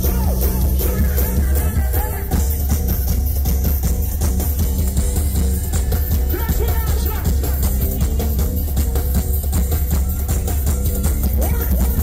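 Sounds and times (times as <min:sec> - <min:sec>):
live band music over pa: 0:00.0 - 0:12.0.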